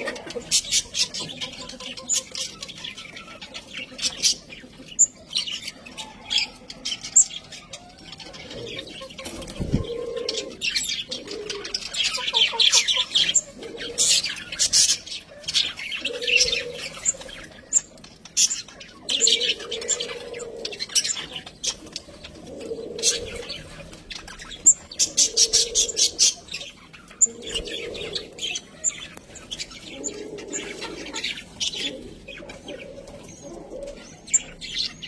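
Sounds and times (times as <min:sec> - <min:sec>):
budgerigars chirping and warbling: 0:00.0 - 0:35.0.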